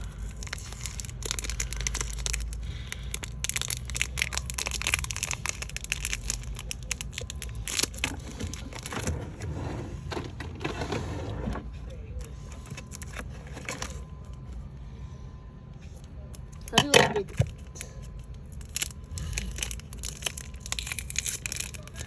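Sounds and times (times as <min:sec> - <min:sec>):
crinkling and crackling handling: 0:00.0 - 0:14.7, 0:16.0 - 0:22.0
low hum: 0:00.0 - 0:22.0.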